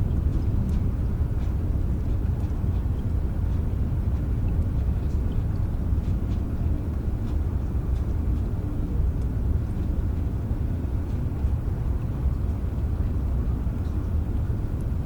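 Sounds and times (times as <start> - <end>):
faint raindrop ticks: 0.0 - 15.0.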